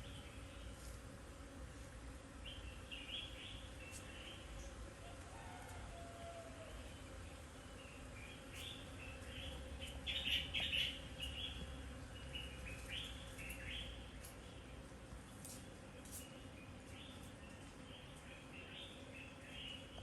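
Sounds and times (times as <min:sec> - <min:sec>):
faint outdoor background noise: 0:00.0 - 0:20.0.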